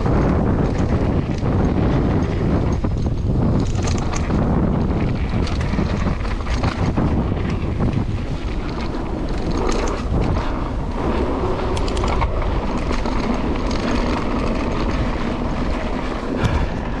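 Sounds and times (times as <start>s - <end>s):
bike clattering over bumps: 0.0s - 17.0s
tyres rolling on sand: 0.0s - 17.0s
wind buffeting microphone: 0.0s - 17.0s.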